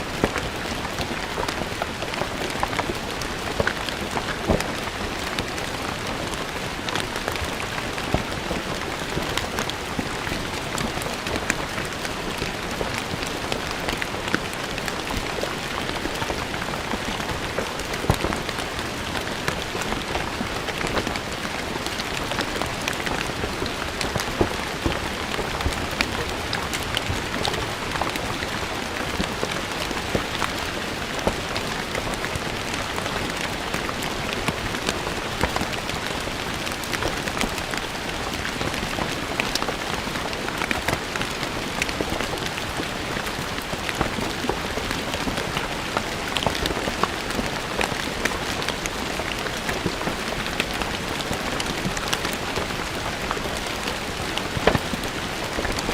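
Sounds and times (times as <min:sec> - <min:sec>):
rain on stone paving: 0:00.0 - 0:55.9.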